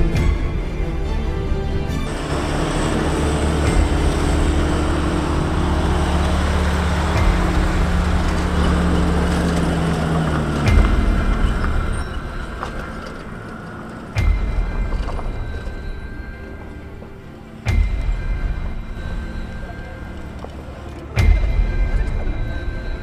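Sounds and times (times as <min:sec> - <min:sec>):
vehicle engine running: 0:00.0 - 0:23.0
engine cutting off with thump: 0:01.9 - 0:23.0.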